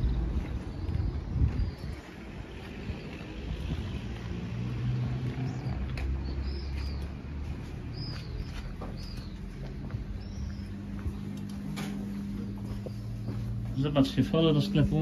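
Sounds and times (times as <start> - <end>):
light footsteps: 0.0 - 15.0
low engine hum: 0.0 - 15.0
small birds chirping: 0.0 - 15.0.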